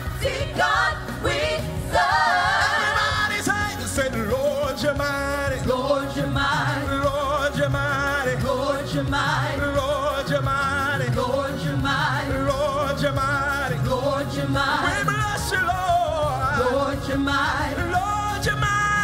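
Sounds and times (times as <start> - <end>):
backing vocal group singing: 0.0 - 19.0
lead singer singing: 0.3 - 19.0.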